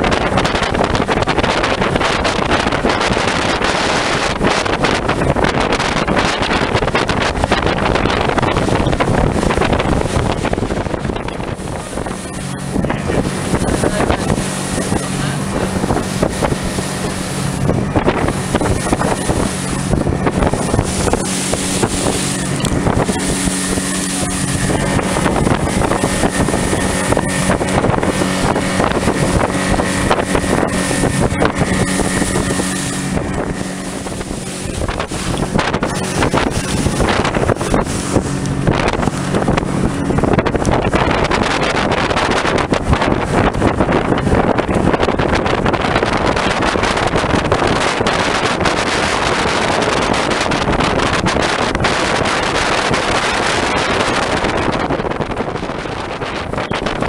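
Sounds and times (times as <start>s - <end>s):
outboard motor running: 0.0s - 57.0s
wind buffeting microphone: 0.0s - 57.0s.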